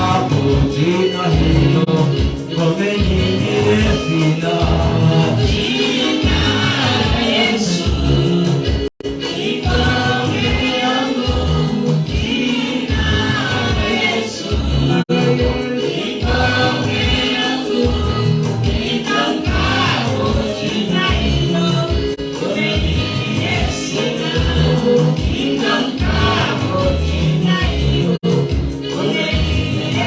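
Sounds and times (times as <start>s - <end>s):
band with repeating bass beat: 0.0s - 30.0s
group singing worship song: 0.0s - 30.0s.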